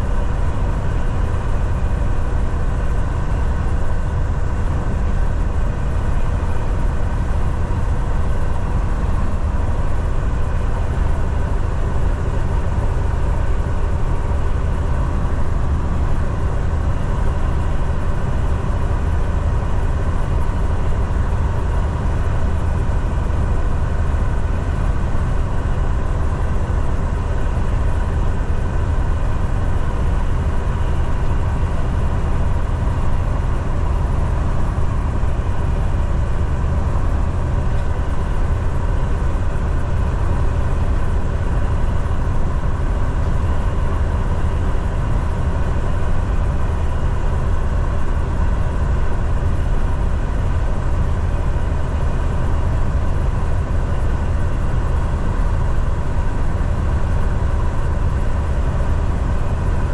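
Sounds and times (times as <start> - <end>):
truck engine drone: 0.0 - 59.9.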